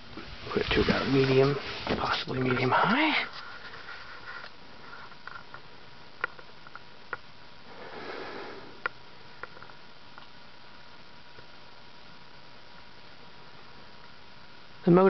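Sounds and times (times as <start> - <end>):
ceiling fan hum and air hiss: 0.0 - 15.0.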